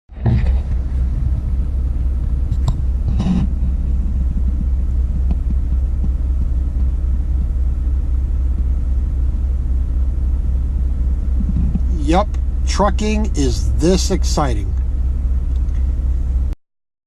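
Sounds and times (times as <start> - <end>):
diesel truck engine rumbling: 0.1 - 16.6.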